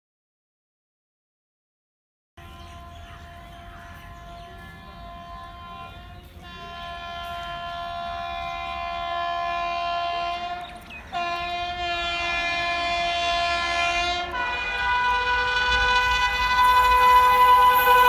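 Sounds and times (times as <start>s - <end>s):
locomotive hauling train: 2.4s - 18.0s
train air horn blasts: 2.4s - 18.0s.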